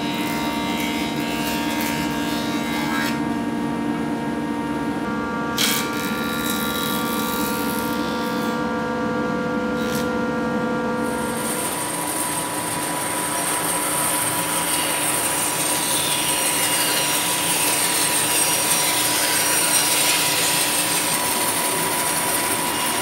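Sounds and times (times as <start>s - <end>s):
jointer whining: 0.0s - 23.0s.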